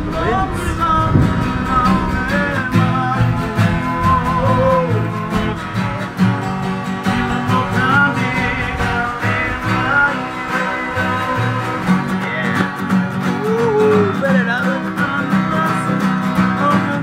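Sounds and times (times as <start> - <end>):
person singing: 0.0 - 6.6, 7.2 - 17.0
acoustic guitar: 0.0 - 17.0.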